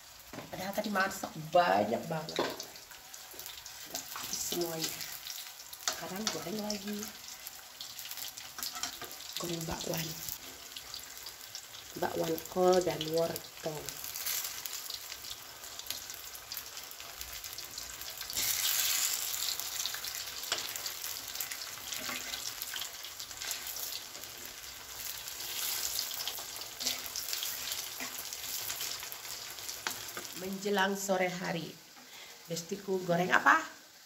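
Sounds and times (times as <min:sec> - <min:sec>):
fritters sizzling in hot oil: 0:00.0 - 0:34.0.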